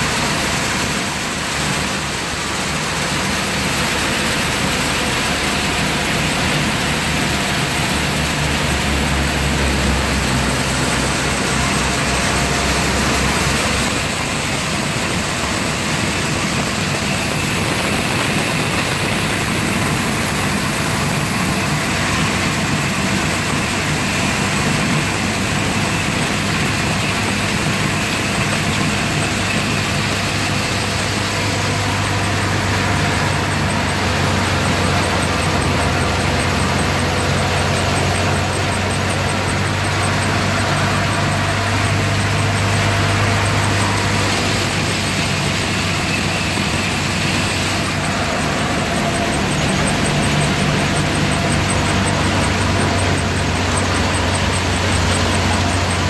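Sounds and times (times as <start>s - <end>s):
low engine hum: 0.0s - 56.0s
thresher machine drone: 0.0s - 56.0s.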